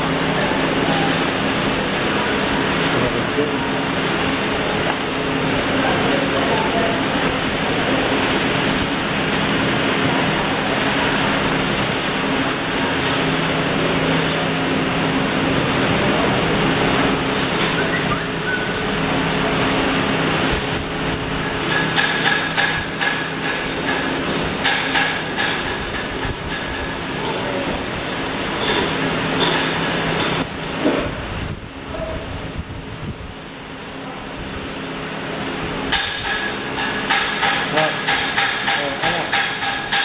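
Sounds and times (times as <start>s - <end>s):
workshop machine hum: 0.0s - 40.0s.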